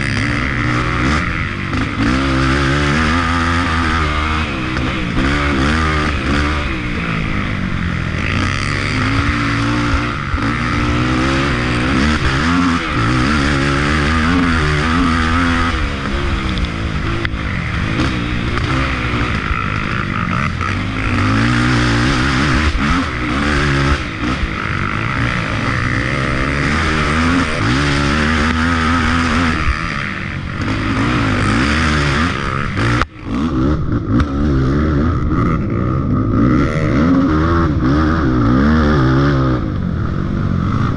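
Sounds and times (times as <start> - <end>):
off-road engine revving: 0.0 - 40.9.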